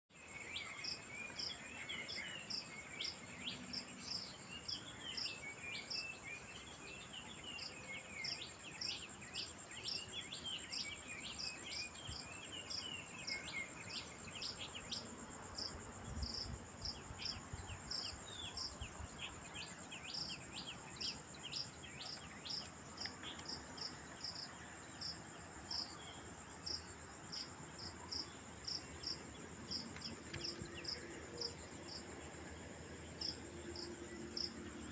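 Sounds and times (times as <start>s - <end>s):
birds chirping and twittering: 0.1s - 34.9s
insect high chirp: 0.1s - 34.9s.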